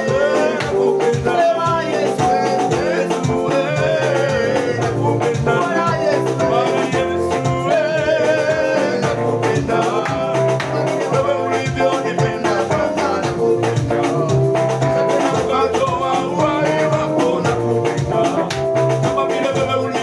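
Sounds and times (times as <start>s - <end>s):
band with dance beat: 0.0s - 20.0s
voices singing: 0.0s - 20.0s.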